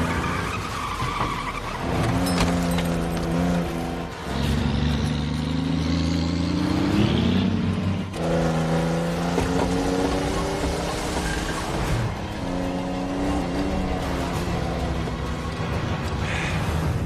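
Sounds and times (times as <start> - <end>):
diesel engine drone: 1.6 - 17.0.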